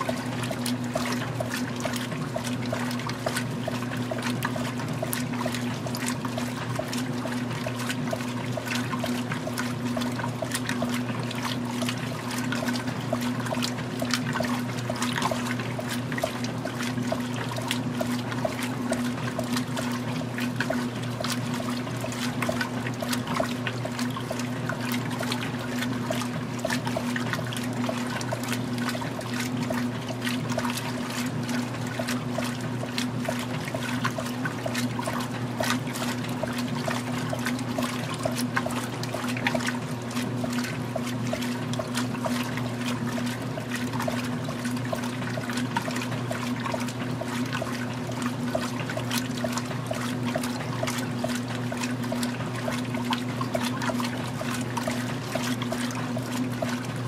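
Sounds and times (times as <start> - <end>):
motor hum: 0.0 - 57.0
washing machine sloshing water: 0.0 - 57.0.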